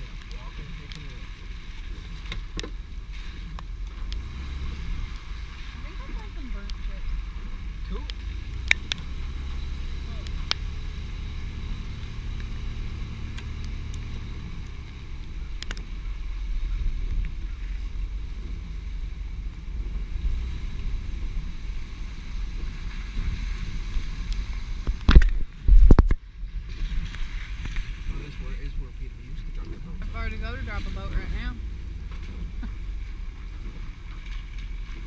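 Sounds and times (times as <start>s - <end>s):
vehicle engine and road rumble: 0.0s - 35.0s.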